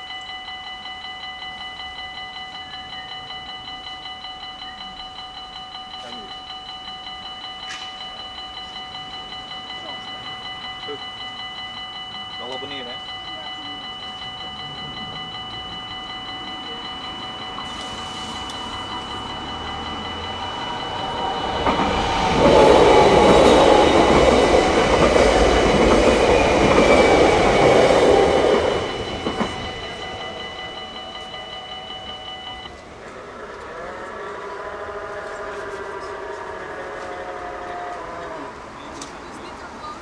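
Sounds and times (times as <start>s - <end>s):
level-crossing bells ringing: 0.0s - 40.0s
passenger train passing: 0.0s - 40.0s
train wheel clacks: 5.6s - 38.0s.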